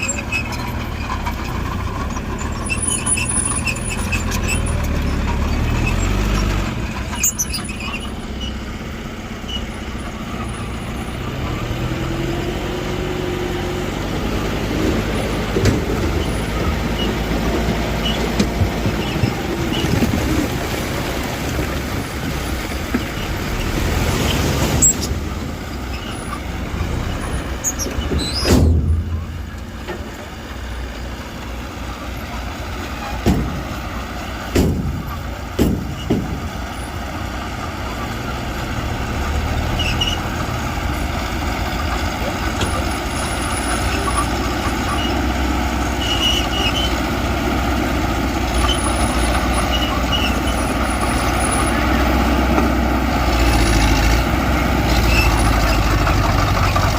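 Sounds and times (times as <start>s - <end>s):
heavy diesel machinery rumbling: 0.0s - 56.9s.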